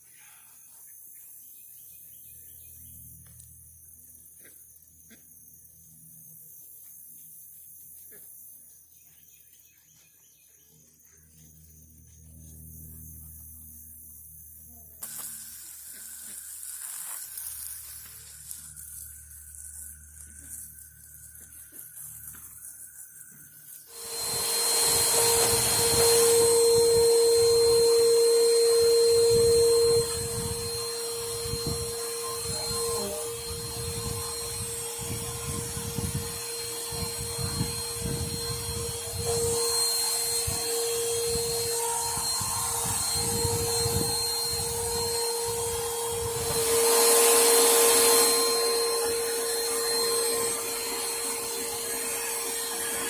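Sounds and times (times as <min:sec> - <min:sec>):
vacuum cleaner whining: 0:09.0 - 0:53.0.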